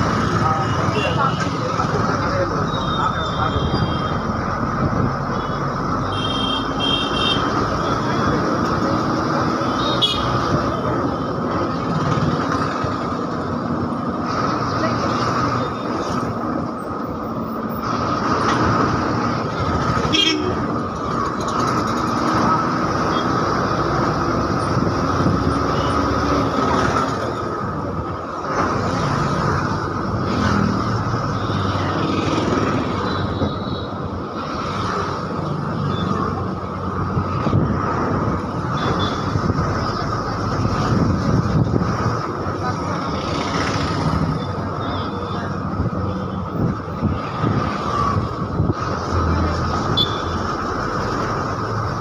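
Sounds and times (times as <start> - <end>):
bus engine and road rumble: 0.0 - 52.0
traffic passing: 0.0 - 52.0.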